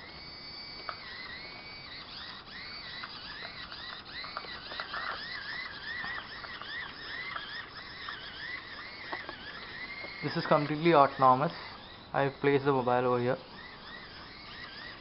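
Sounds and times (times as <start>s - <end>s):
servo motors whining: 0.0s - 15.0s.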